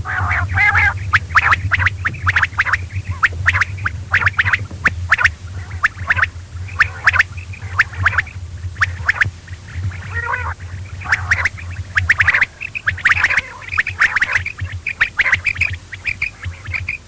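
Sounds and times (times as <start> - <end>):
quail chirping: 0.0 - 17.0
steady low hum: 0.0 - 17.0.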